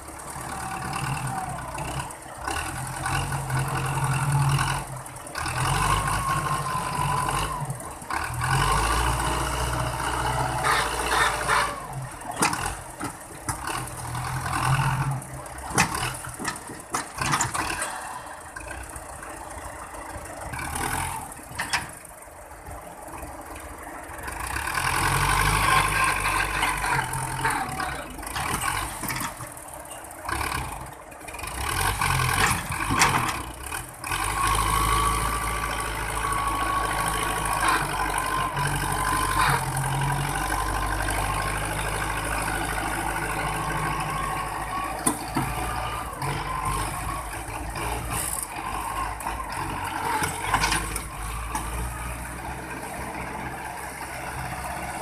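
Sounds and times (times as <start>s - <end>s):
tractor diesel engine labouring: 0.0s - 55.0s.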